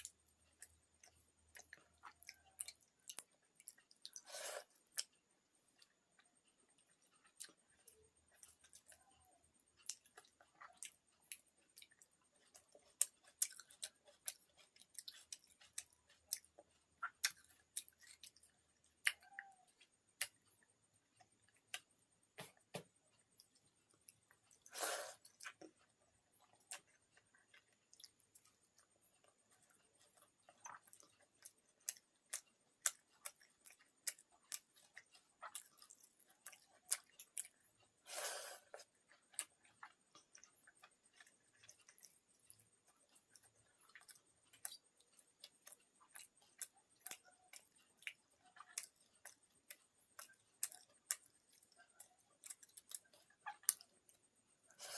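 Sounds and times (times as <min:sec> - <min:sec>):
faint chewing: 0:00.0 - 0:54.9.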